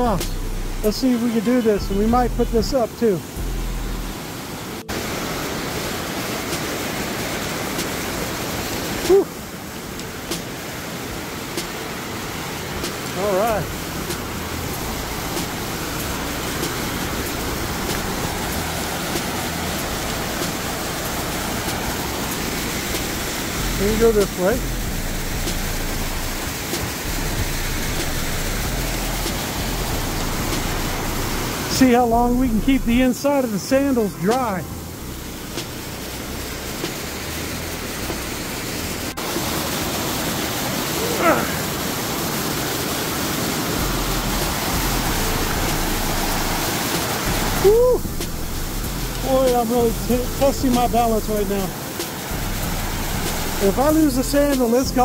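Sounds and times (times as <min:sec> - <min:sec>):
creek water flowing: 0:00.0 - 0:55.0
waterfall rushing: 0:00.0 - 0:55.0.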